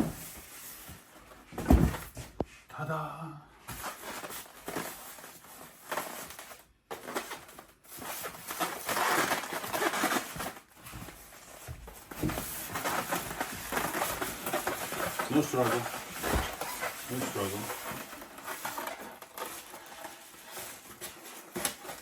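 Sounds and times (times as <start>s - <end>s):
packaging rustling and crinkling: 3.7s - 22.0s.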